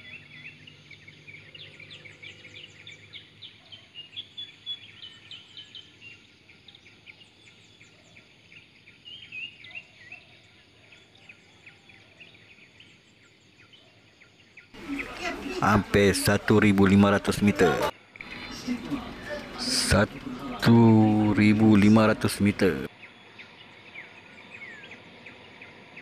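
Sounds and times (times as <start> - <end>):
birds chirping and trilling: 0.0 - 26.0
faint background noise: 0.0 - 26.0.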